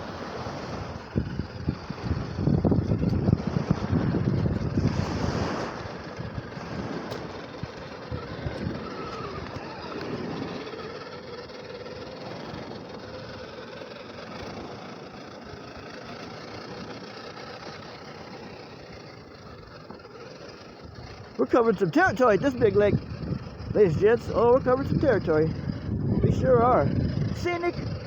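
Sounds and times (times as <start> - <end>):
rc car electric motor whining: 0.2 - 28.0.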